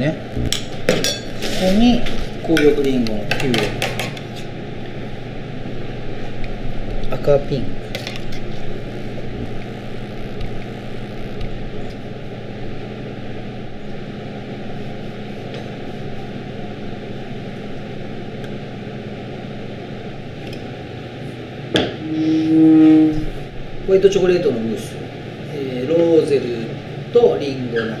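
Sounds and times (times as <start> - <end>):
ventilation hiss and hum: 0.0 - 28.0.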